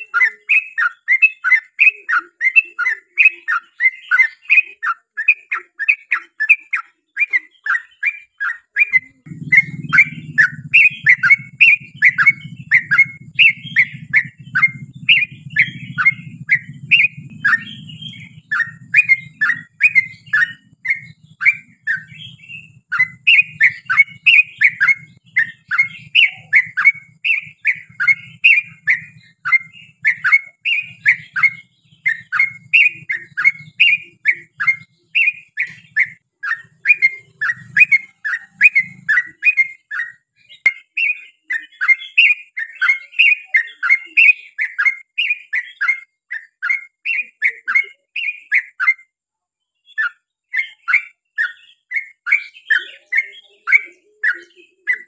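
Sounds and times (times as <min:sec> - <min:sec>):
bird chirping rapidly: 0:00.0 - 0:49.1, 0:49.8 - 0:55.0.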